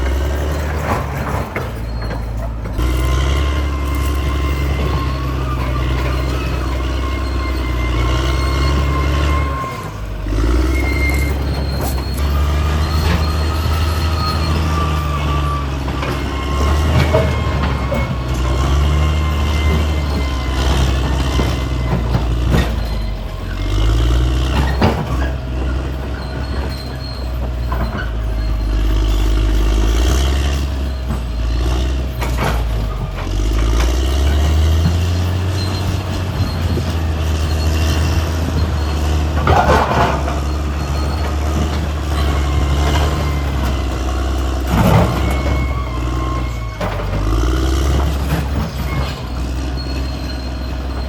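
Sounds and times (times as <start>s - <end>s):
bulldozer diesel engine: 0.0s - 51.0s
steel track clatter: 0.0s - 51.0s.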